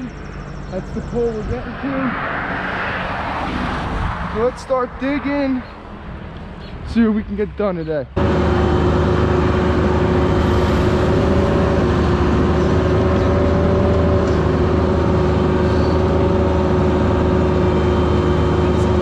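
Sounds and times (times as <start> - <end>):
constant pitched hum: 0.0 - 2.1, 4.4 - 19.0
excavator diesel engine: 0.0 - 2.4, 4.4 - 19.0.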